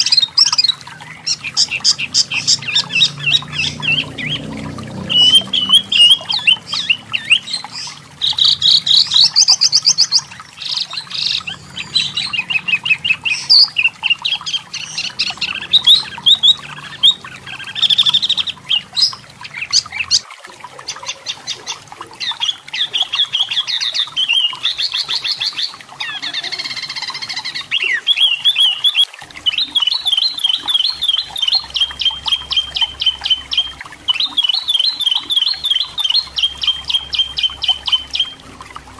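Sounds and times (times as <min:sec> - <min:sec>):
bird singing chattering trills: 0:00.0 - 0:20.2, 0:21.4 - 0:38.4.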